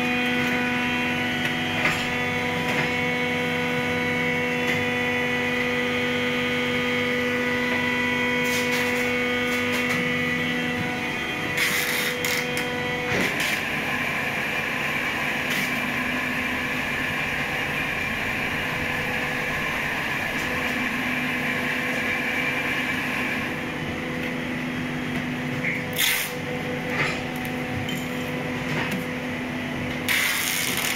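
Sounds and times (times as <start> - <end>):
machinery humming and whirring: 0.0 - 30.9.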